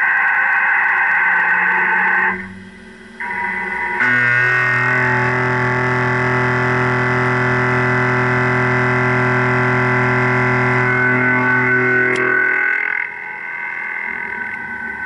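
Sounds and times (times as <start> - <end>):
mill cutting steel ringing drone: 2.3 - 15.0.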